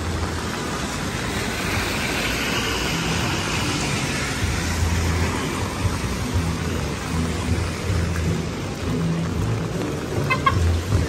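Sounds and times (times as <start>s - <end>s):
car tyres hissing on wet road: 0.0s - 11.0s
rain on pavement: 0.0s - 11.0s.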